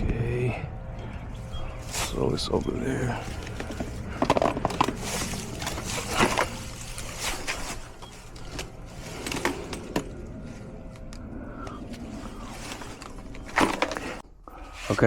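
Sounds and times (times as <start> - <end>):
rustling and scraping: 1.8 - 11.1, 11.7 - 15.0.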